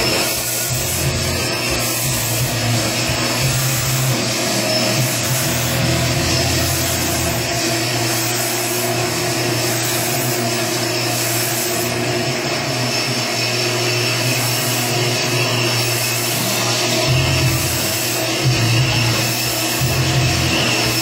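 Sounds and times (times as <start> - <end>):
honing machine motor whir: 0.0 - 21.0.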